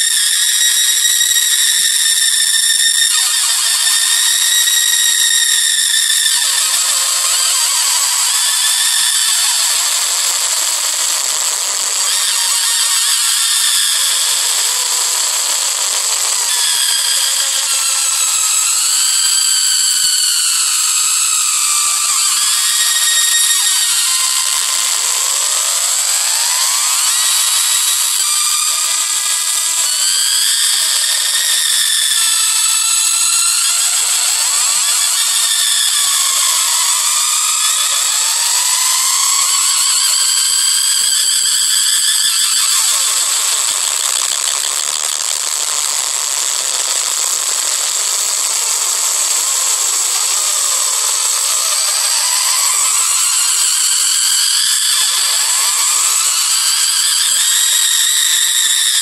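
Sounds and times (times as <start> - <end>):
shrill experimental noise music: 0.0 - 59.0.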